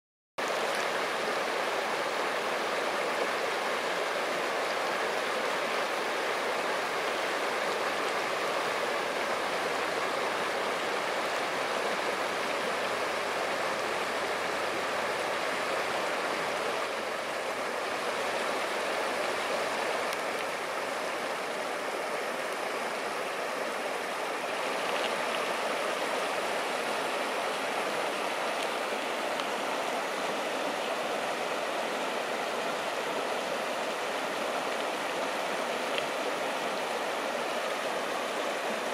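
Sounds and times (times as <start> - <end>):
stream running over stones: 0.4 - 38.9.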